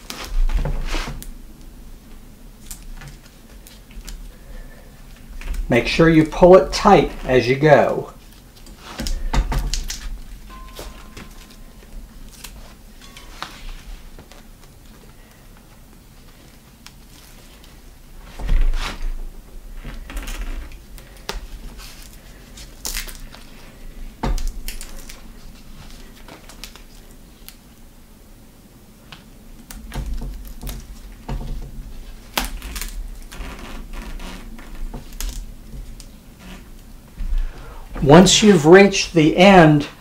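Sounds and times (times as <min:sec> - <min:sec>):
tape rustling and crackling: 0:00.0 - 0:38.7.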